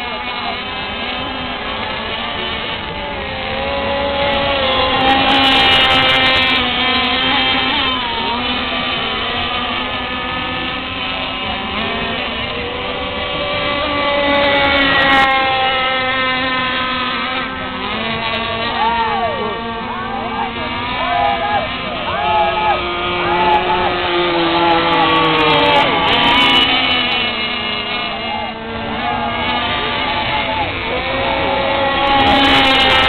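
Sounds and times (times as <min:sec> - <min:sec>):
rc powerboat engines whining: 0:00.0 - 0:33.0.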